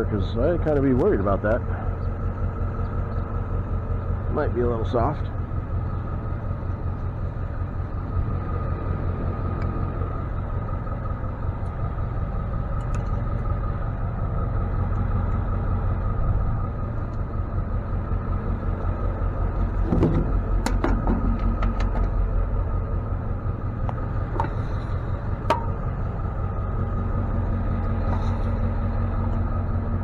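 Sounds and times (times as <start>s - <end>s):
faint steady whine: 0.0s - 30.0s
truck engine rumbling: 0.0s - 30.0s.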